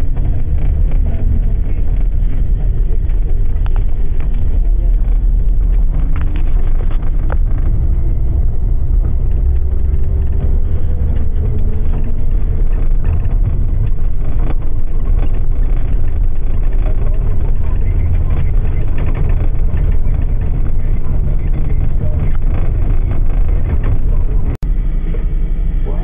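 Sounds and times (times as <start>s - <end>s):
bus rumbling at speed: 0.0s - 26.0s.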